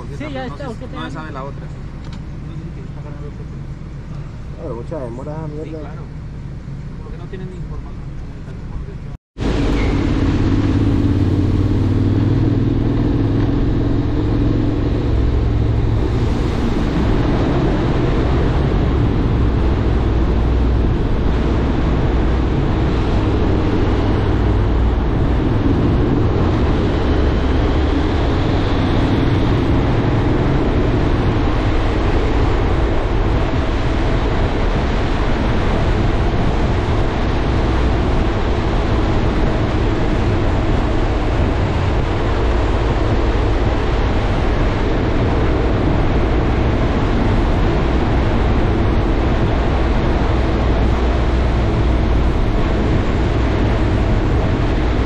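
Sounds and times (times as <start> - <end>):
motorcycle engine drone: 0.0 - 55.0
wind rushing over microphone: 9.4 - 55.0.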